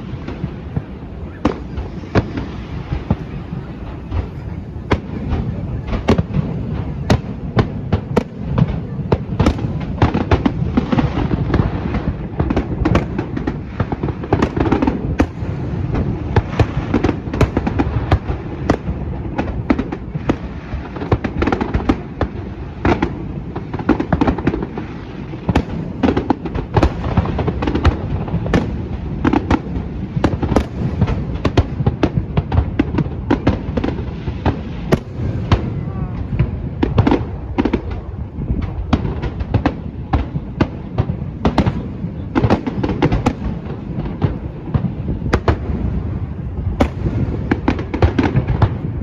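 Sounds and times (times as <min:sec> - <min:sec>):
fireworks bangs and pops: 0:00.0 - 0:49.0
low rumble of distant fireworks: 0:00.0 - 0:49.0.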